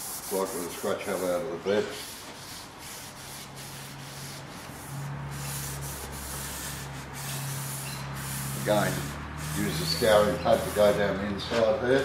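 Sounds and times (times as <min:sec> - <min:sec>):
abrasive scrubbing metal: 0:00.0 - 0:11.2.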